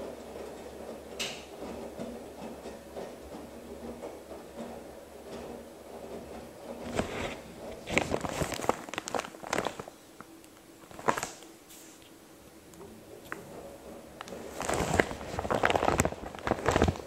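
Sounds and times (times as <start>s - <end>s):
washing machine hum: 0.0s - 17.0s.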